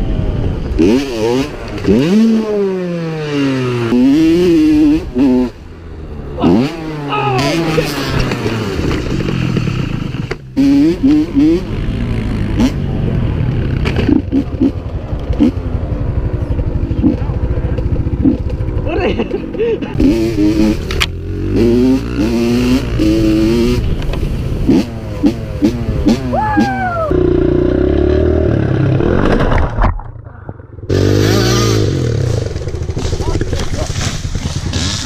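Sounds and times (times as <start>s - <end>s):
dirt bike engine revving: 0.6s - 29.4s, 30.9s - 35.0s.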